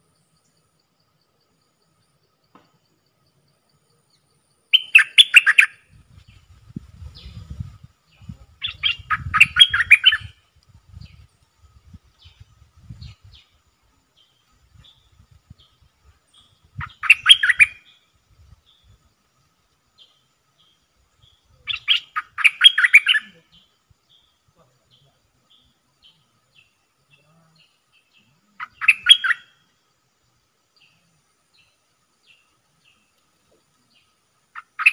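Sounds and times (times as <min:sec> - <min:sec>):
songbird chirping: 0:00.0 - 0:34.9.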